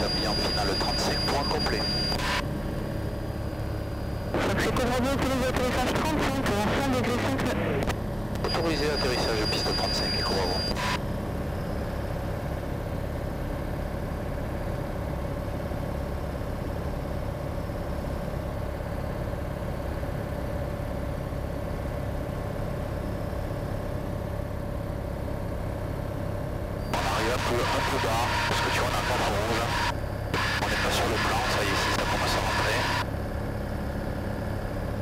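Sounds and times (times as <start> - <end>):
aircraft engine and propeller droning: 0.0 - 35.0.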